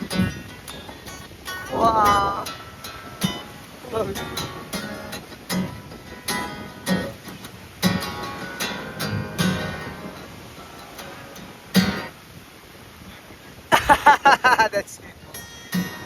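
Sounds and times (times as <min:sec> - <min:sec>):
acoustic guitar strumming: 0:00.0 - 0:13.1, 0:15.1 - 0:16.0.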